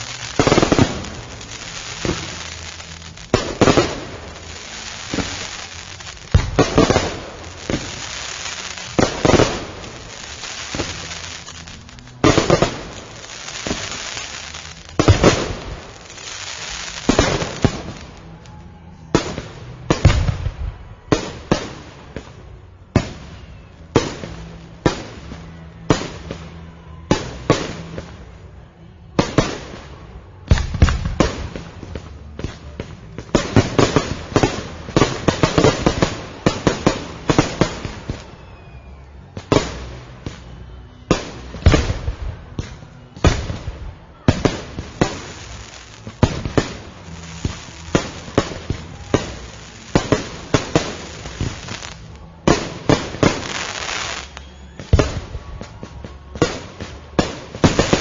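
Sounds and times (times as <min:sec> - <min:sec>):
fireworks crackling hiss: 0:00.0 - 0:26.5, 0:29.2 - 0:58.0
fireworks bangs: 0:00.0 - 0:58.0.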